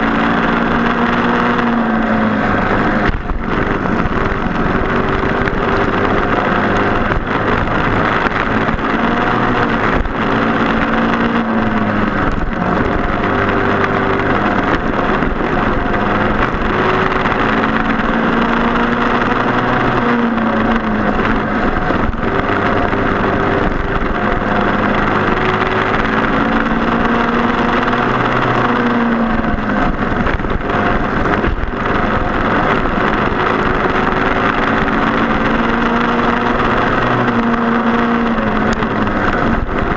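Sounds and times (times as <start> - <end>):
racing kart engines: 0.0 - 39.9
steady rushing noise: 0.0 - 39.9.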